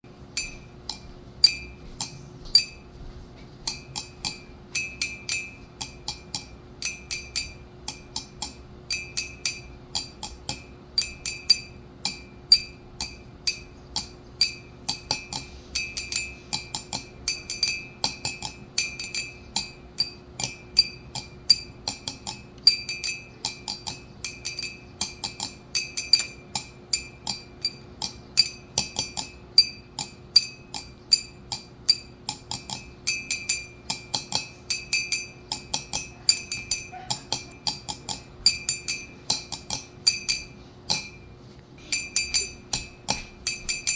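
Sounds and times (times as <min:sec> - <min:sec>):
faint steady hum: 0:00.0 - 0:43.9
glass clinking: 0:00.4 - 0:02.9, 0:03.7 - 0:43.9.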